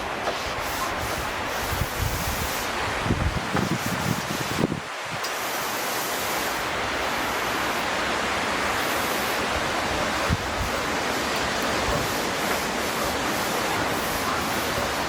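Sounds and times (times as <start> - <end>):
rushing hiss: 0.0 - 15.0.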